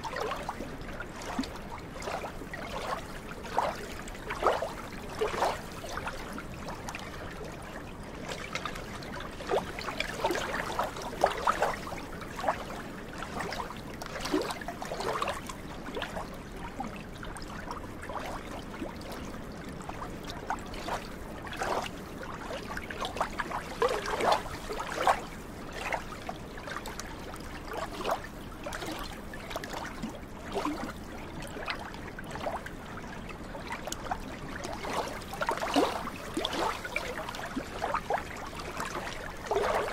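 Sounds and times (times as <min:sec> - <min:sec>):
small waves lapping at shore: 0:00.0 - 0:39.9
water splashes and gurgles: 0:00.0 - 0:39.9.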